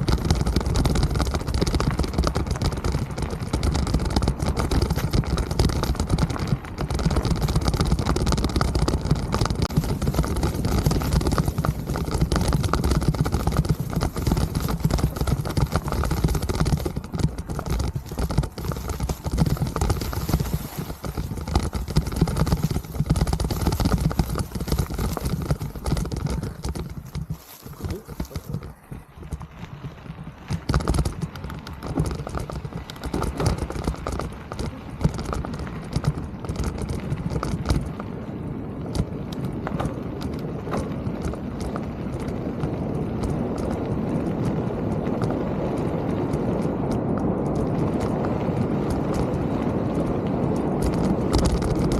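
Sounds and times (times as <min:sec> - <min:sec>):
bike rattling over rough trail: 0:00.0 - 0:51.9
tyre noise: 0:00.0 - 0:51.9
wind buffeting microphone: 0:00.0 - 0:51.9.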